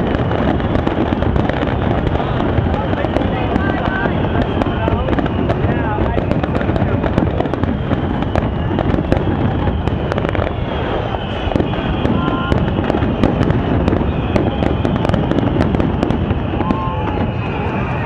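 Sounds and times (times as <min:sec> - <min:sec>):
fireworks barrage rumbling: 0:00.0 - 0:18.0
fireworks cracking and crackling: 0:00.0 - 0:18.0.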